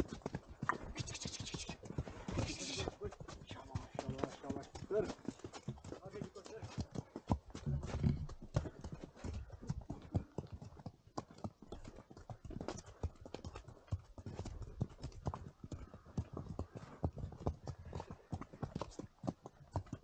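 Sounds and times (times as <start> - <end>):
horse hooves clip-clopping: 0.0 - 20.0.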